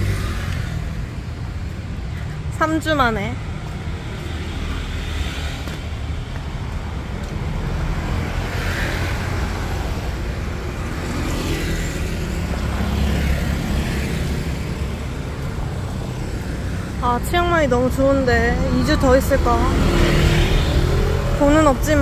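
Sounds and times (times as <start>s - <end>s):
low rumble of engines: 0.0s - 22.0s
vehicles passing by: 0.0s - 22.0s.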